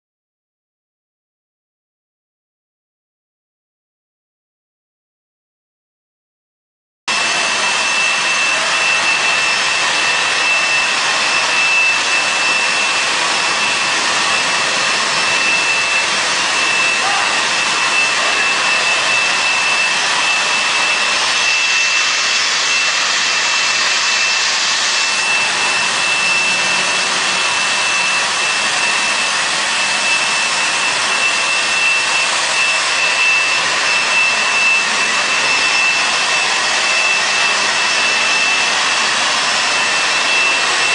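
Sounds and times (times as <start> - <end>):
high machine whine: 7.1 - 40.9
rug-washing machine hissing rush: 7.1 - 40.9.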